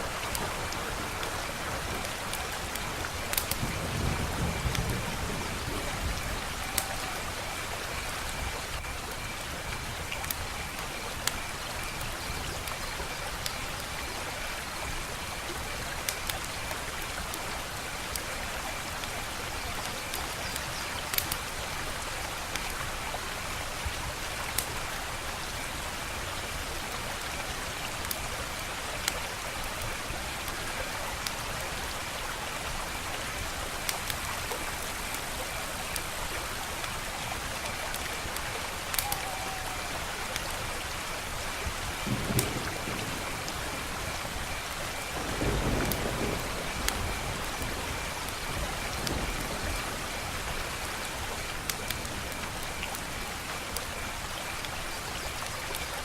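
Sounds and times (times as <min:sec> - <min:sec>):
wood fire crackling: 0:00.0 - 0:14.6, 0:15.4 - 0:23.1, 0:27.4 - 0:56.0.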